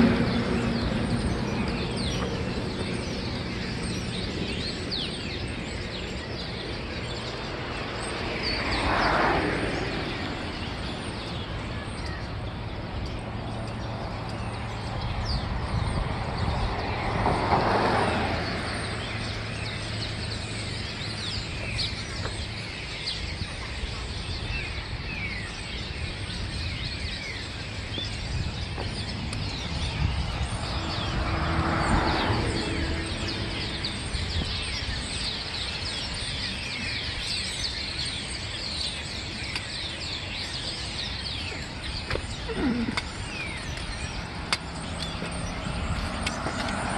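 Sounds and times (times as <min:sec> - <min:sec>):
flock of birds chirping: 0:00.0 - 0:46.9
vehicles passing: 0:00.0 - 0:46.9.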